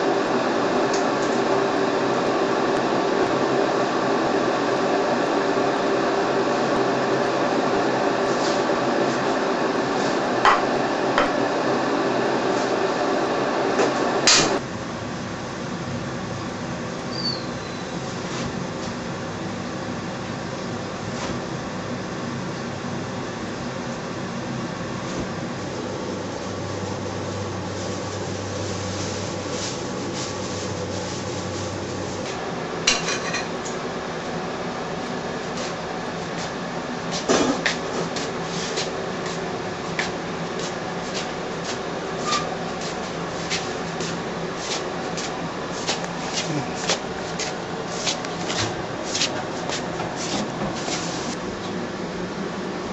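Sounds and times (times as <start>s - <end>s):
steady background hum: 0.0s - 52.9s.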